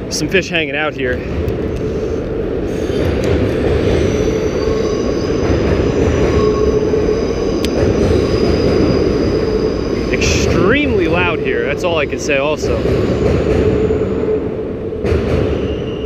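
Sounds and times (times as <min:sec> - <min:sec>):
train wheels rumbling: 0:00.0 - 0:16.0
high wheel squeal: 0:01.8 - 0:14.6, 0:15.4 - 0:16.0.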